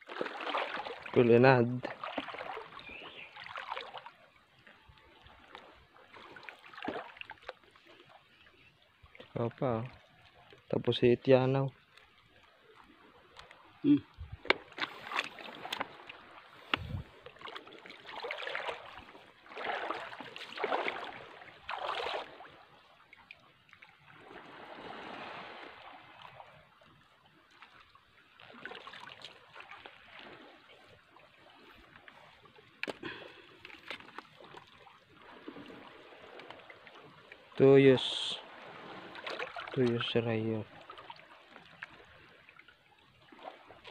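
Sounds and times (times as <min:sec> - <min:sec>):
water sloshing around wading legs: 0:00.0 - 0:10.8, 0:11.8 - 0:43.9.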